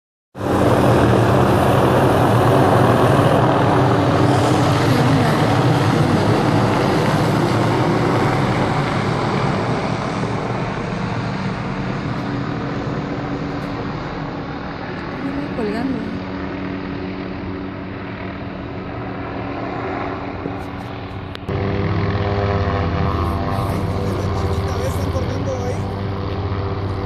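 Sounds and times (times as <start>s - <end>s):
helicopter flying overhead: 0.4s - 27.0s.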